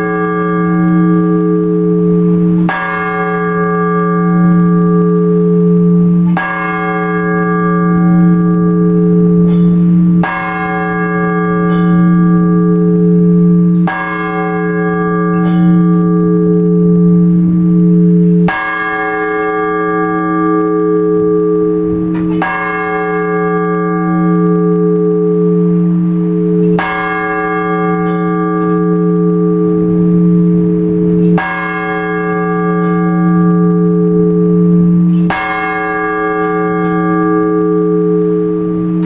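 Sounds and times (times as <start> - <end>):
church bell tolling: 0.0 - 39.0.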